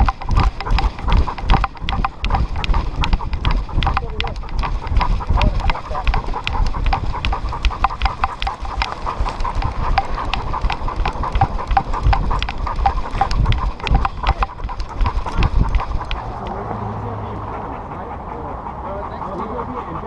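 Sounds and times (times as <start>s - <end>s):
dog footfalls: 0.0s - 16.4s
camera jostling rumble: 0.0s - 16.7s
dog panting: 0.0s - 20.0s.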